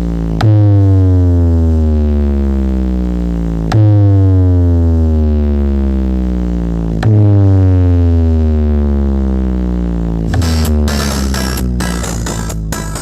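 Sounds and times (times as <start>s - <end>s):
deep bass tone sliding downward: 0.0s - 13.0s.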